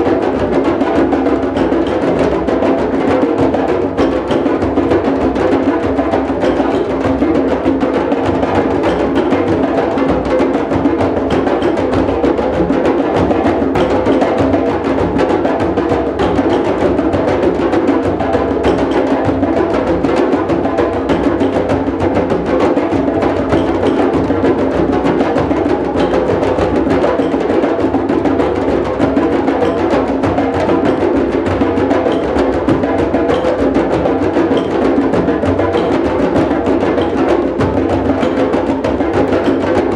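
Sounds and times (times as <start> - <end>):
drum circle playing: 0.0 - 39.9.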